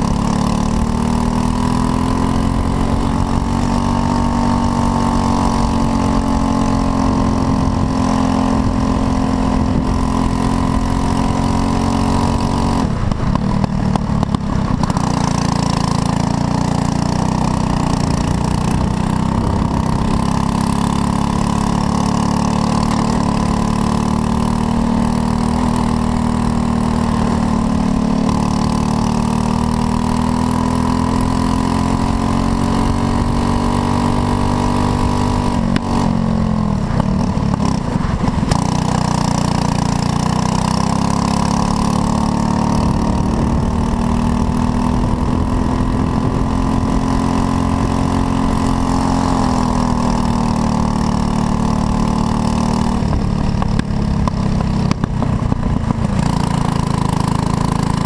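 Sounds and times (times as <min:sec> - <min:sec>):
kart engine at high revs: 0:00.0 - 0:58.0.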